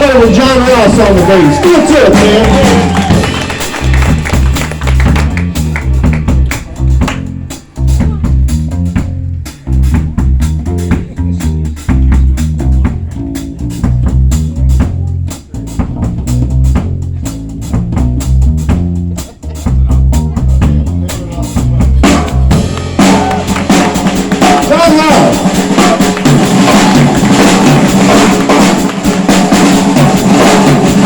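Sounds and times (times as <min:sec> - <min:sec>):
bass guitar playing low notes: 0:00.0 - 0:31.0
drum kit steady beat: 0:00.0 - 0:31.0.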